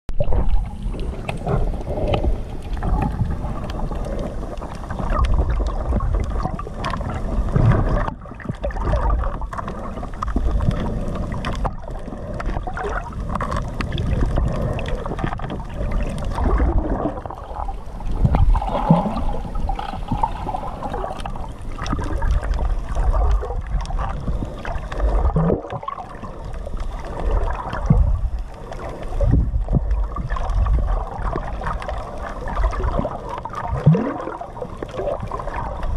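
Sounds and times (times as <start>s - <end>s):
muffled underwater gurgling: 0.1s - 35.9s.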